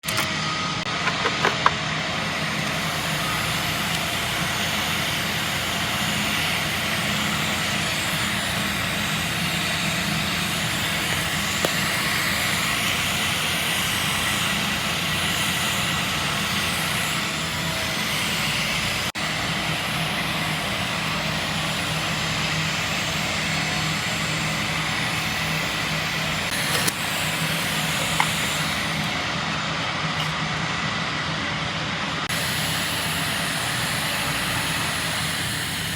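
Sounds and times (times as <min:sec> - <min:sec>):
welding arc hiss and buzz: 0:00.0 - 0:31.2, 0:31.8 - 0:35.9
electrical hum: 0:00.0 - 0:35.9.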